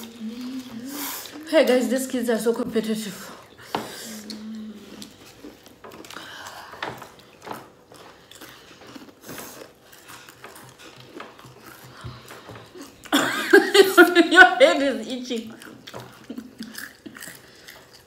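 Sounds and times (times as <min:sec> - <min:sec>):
chewing crunchy chips: 0:00.0 - 0:02.2, 0:03.4 - 0:13.2, 0:15.2 - 0:18.0.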